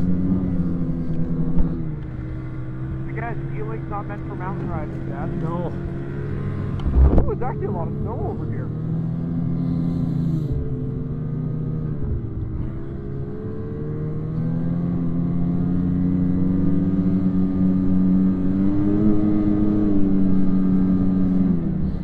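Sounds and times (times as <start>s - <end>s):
snowmobile engine under throttle: 0.0s - 22.0s.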